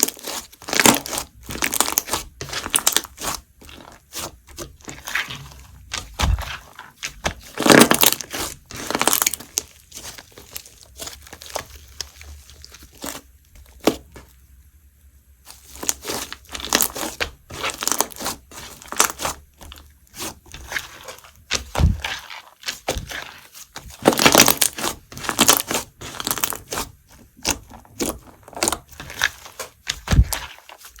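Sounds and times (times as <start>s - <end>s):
crunchy slime squeezed by hands: 0.0s - 14.2s, 15.5s - 31.0s.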